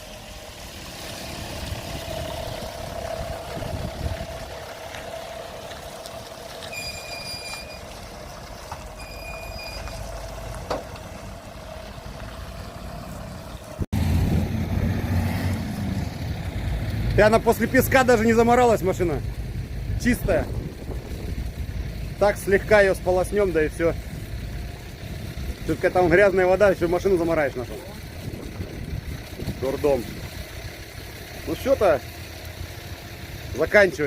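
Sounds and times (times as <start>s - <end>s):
vehicle engine drone with whine: 0.0s - 34.0s
deep rumble: 1.4s - 26.6s, 27.9s - 31.1s.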